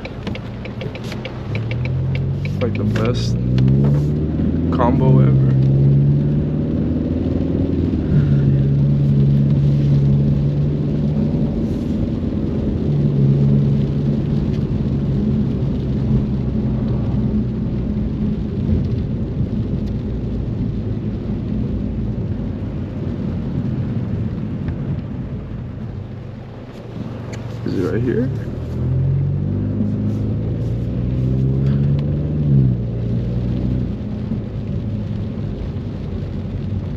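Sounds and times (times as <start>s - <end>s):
car engine droning: 0.0s - 36.9s
low road rumble: 0.0s - 36.9s.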